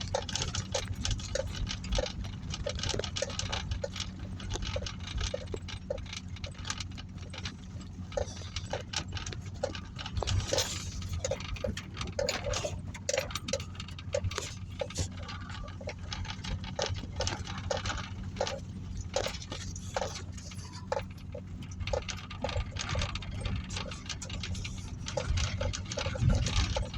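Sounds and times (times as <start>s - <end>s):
rain drops ticking and dripping: 0.0s - 26.9s
steady low hum: 0.0s - 26.9s.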